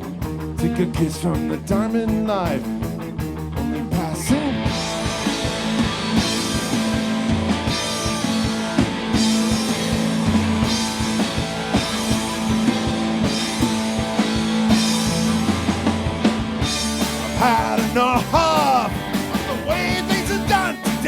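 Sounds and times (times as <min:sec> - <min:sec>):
drum kit beats: 0:00.0 - 0:21.0
electric guitar chords: 0:00.0 - 0:21.0.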